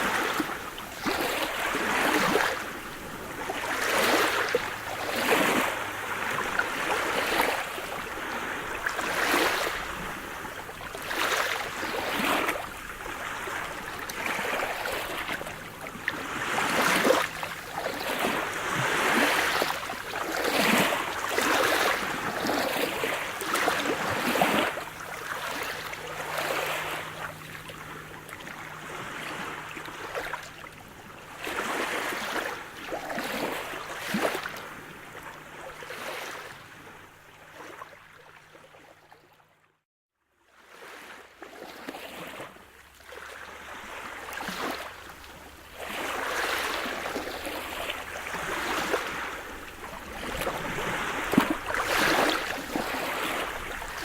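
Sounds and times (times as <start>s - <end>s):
sea waves washing: 0.0s - 35.2s, 43.8s - 54.0s.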